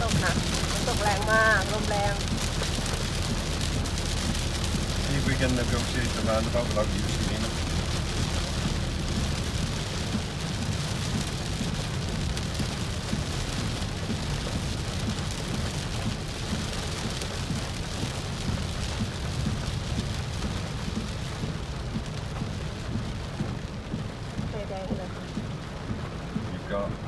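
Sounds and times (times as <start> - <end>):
engine and road rumble: 0.0 - 27.0
heavy rain on car: 0.0 - 27.0.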